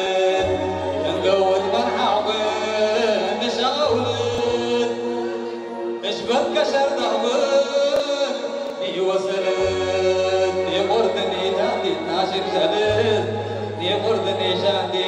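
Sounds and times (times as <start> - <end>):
electronic keyboard: 0.0 - 15.0
man singing through microphone: 0.0 - 15.0.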